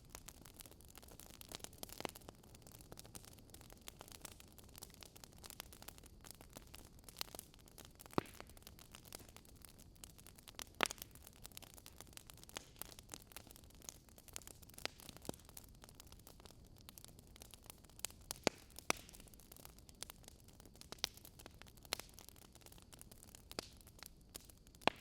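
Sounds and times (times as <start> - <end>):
fire pops: 0.0 - 15.6, 16.2 - 20.2, 20.8 - 25.0
burning wood crackling: 0.0 - 25.0.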